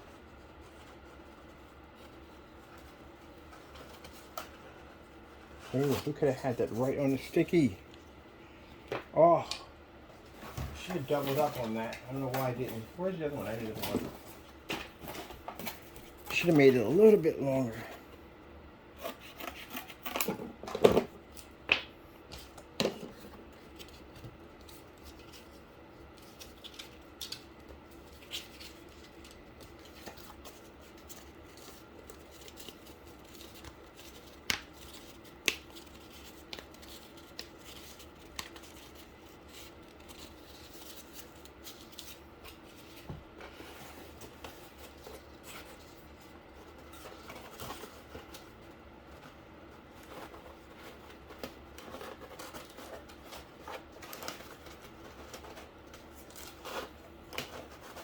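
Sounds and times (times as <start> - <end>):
faint steady hum: 0.0 - 58.0
cardboard and tape handling: 0.1 - 8.1, 10.2 - 17.8, 19.0 - 58.0.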